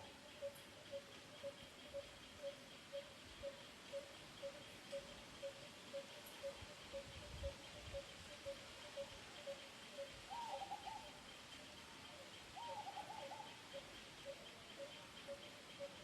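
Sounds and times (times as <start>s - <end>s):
wild birds calling: 0.0s - 16.0s.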